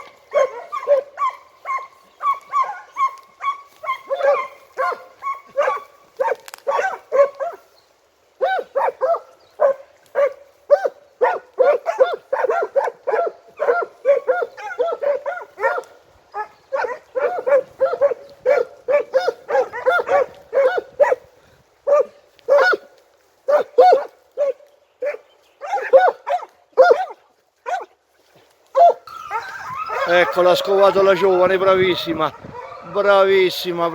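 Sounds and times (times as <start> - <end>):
hounds baying: 0.0 - 7.8, 8.4 - 28.0, 28.7 - 33.9.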